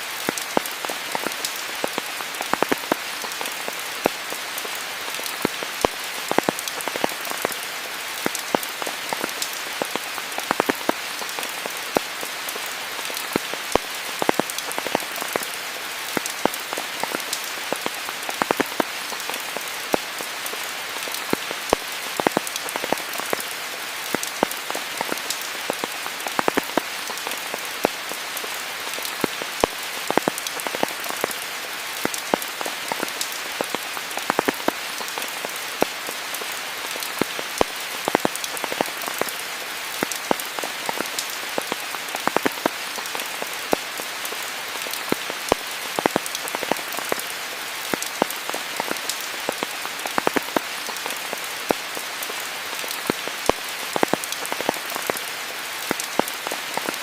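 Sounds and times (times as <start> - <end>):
raindrops striking leaves: 0.0 - 57.0
steady rain hiss: 0.0 - 57.0.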